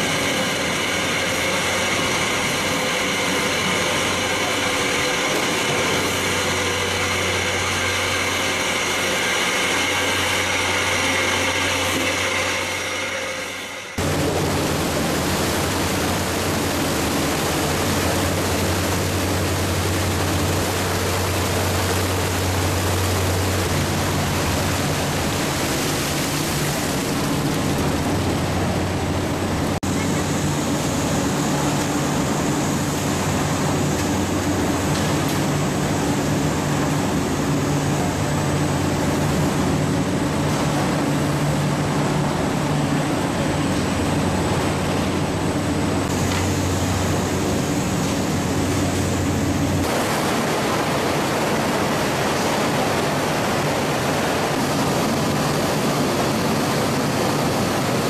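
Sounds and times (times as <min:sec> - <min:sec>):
machinery hum: 0:00.0 - 0:58.0.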